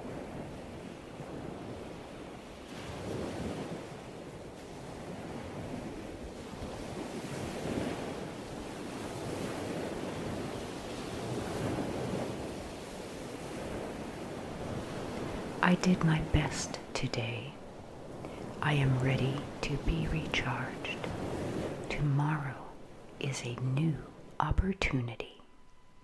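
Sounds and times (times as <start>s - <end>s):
ocean surf breaking on shore: 0.0s - 24.4s.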